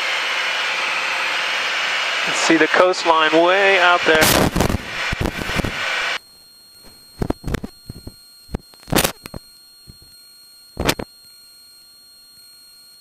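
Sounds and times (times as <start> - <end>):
electronic whine and hiss: 0.0 - 13.0.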